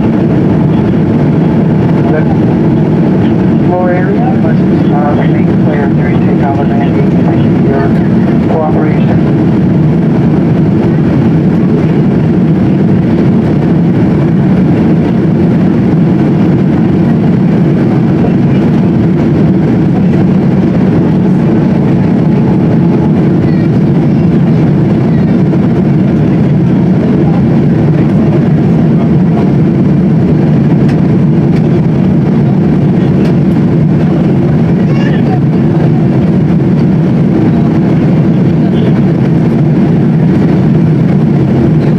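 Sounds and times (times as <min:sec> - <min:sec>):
airplane cabin engine drone: 0:00.0 - 0:41.9.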